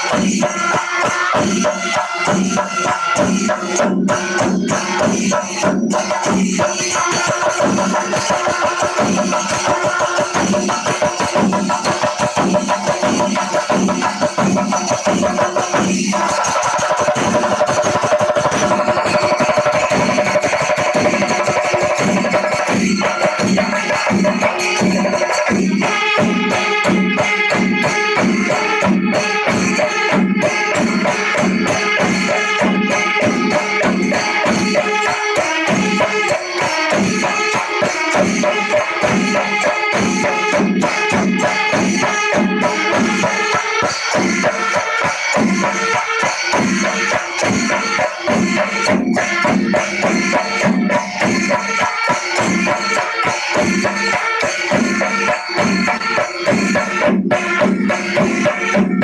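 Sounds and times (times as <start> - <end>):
cymbals clashing: 0.0 - 59.0
drums beating steady pulse: 0.0 - 59.0.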